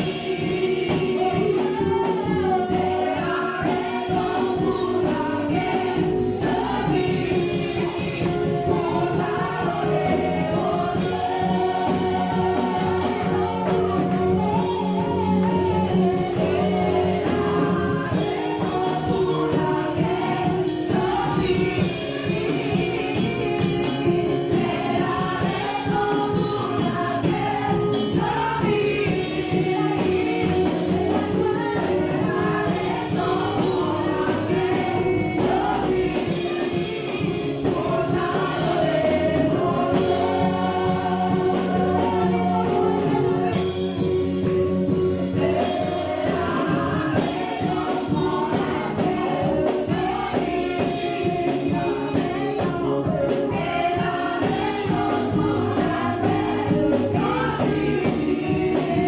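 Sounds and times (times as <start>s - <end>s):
gospel choir singing: 0.0s - 59.0s.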